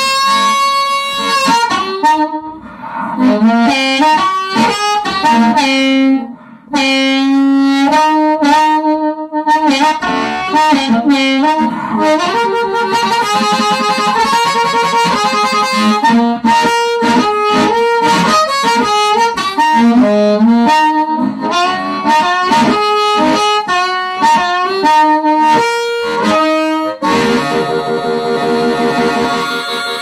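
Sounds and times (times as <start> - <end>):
amplified harmonica: 0.0 - 30.0.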